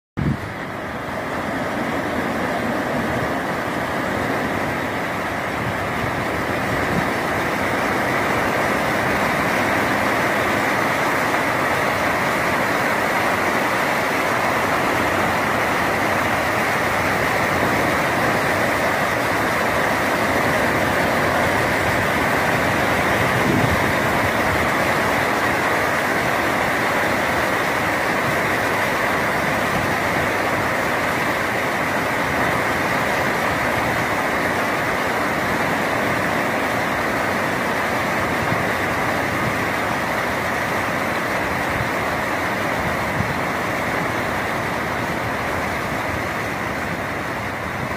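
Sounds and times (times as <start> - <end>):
sea water splashing and rushing: 0.2 - 47.9.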